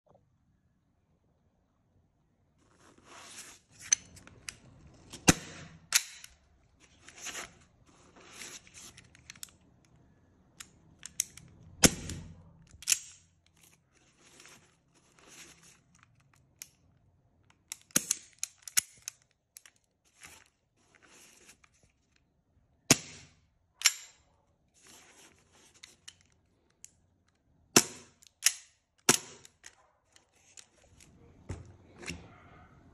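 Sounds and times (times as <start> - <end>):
pistols being handled: 3.7 - 22.3, 22.9 - 32.3.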